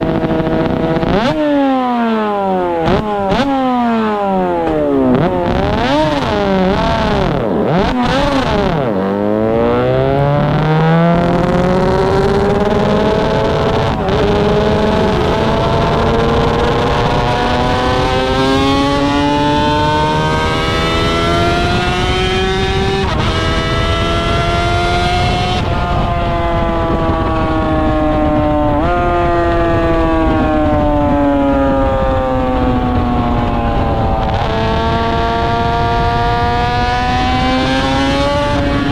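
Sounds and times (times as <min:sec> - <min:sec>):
racing motorcycle engine revving: 0:00.0 - 0:38.9.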